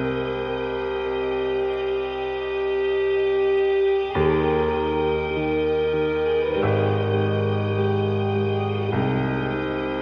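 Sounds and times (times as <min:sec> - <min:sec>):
ambient synth chords: 0:00.0 - 0:10.0.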